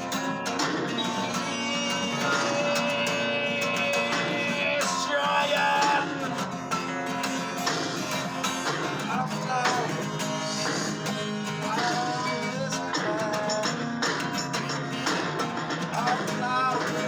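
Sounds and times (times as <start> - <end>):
song with strummed acoustic guitar: 0.0 - 17.0.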